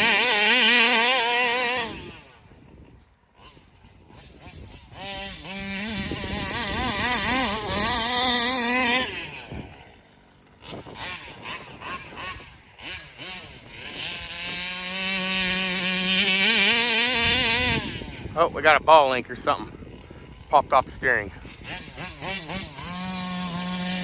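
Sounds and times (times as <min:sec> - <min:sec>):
engine throttle blips: 0:00.0 - 0:24.0
two-stroke engine revving high: 0:00.0 - 0:24.0.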